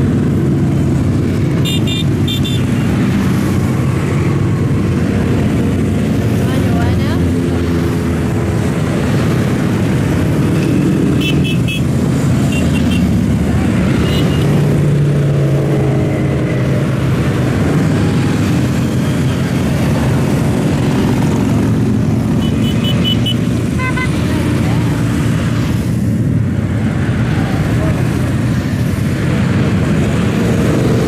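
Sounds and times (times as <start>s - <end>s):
motorcycle traffic passing: 0.0s - 31.0s.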